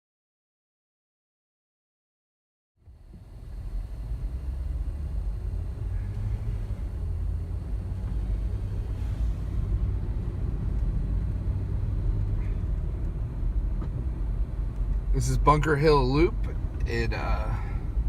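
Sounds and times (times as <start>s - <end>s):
car interior road and engine drone: 2.8s - 18.0s.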